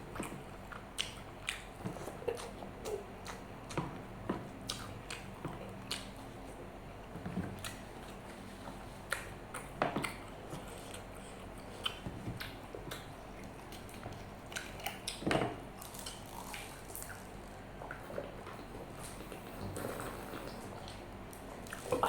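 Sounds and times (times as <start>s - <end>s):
chewing and mouth smacks: 0.1s - 3.9s, 4.6s - 6.6s, 7.5s - 22.0s.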